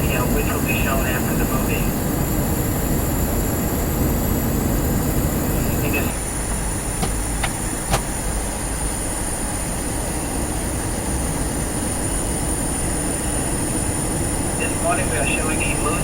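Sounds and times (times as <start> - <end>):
airliner engines droning: 0.0 - 16.0.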